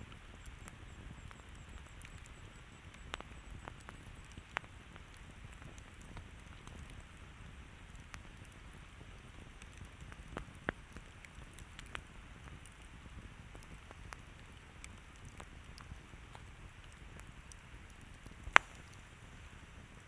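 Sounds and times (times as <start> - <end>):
campfire crackling pops: 0.0 - 20.0
low rumble of flames: 0.0 - 20.0.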